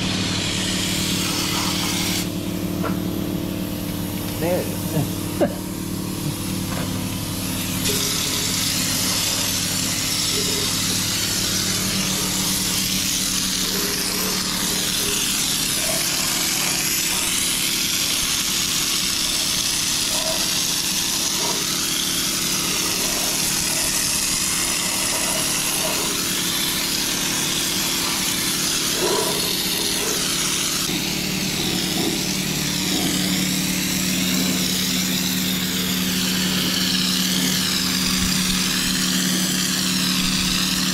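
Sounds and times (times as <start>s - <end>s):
low motor hum: 0.0s - 40.9s
spray gun hissing: 0.0s - 40.9s.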